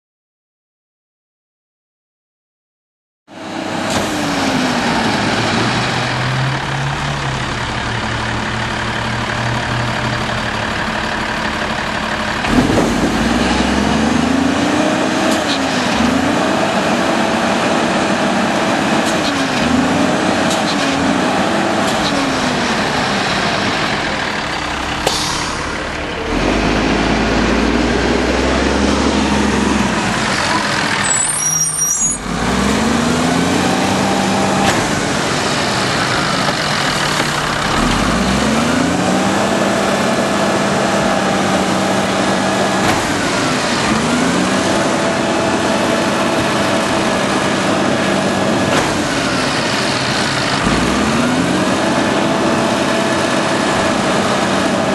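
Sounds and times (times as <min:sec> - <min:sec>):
garbage truck diesel engine revving: 0:03.3 - 0:54.9.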